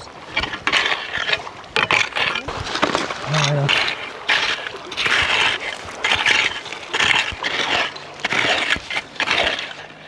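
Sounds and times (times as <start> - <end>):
hoes scraping through wet gravel: 0.0 - 10.0.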